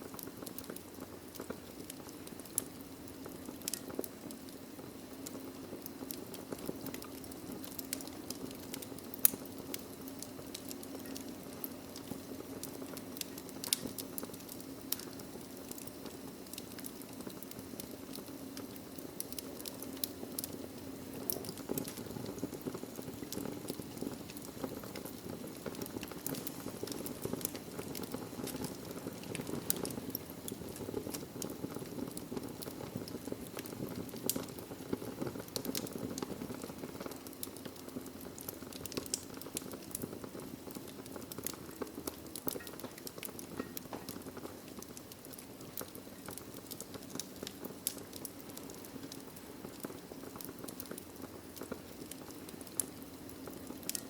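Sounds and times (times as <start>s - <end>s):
logs crackling and popping: 0.0s - 54.0s
low rush of flame: 0.0s - 54.0s.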